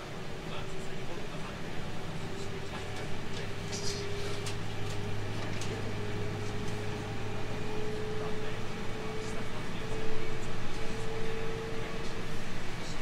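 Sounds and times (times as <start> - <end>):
electric train low hum: 0.0 - 13.0.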